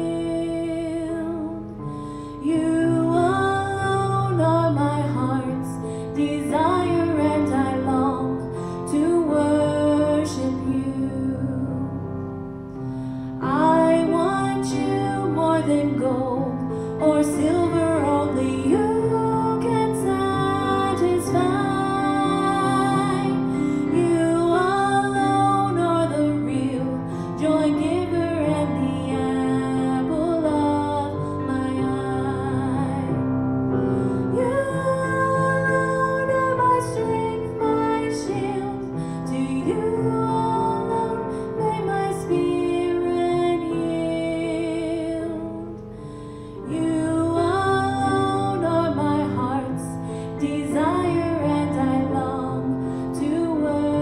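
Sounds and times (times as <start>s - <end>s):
woman singing into microphone: 0.0s - 12.3s, 13.4s - 54.0s.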